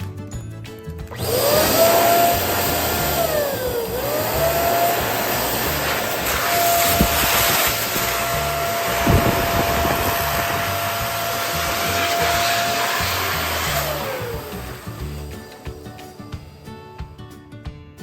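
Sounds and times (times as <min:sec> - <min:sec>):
electric balloon pump whining: 0:01.0 - 0:16.8
air hissing: 0:01.3 - 0:16.8.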